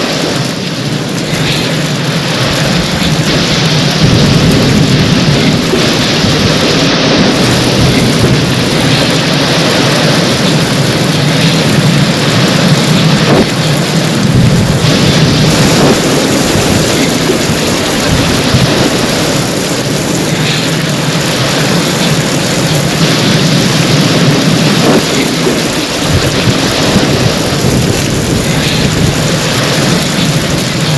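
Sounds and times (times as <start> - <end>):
heavy rain pouring: 0.0 - 30.9
thunder rumbling: 0.0 - 30.9.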